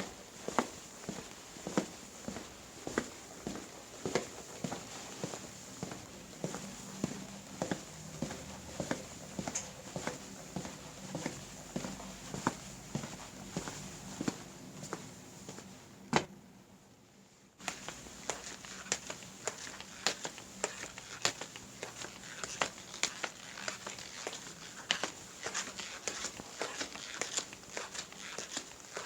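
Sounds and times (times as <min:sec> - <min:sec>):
footsteps: 0:00.0 - 0:16.3, 0:17.6 - 0:29.0.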